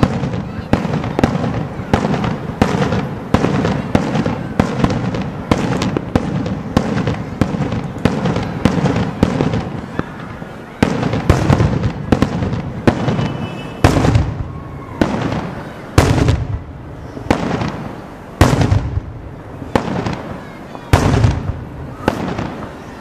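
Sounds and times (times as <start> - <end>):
fireworks bangs with echo: 0.0 - 23.0.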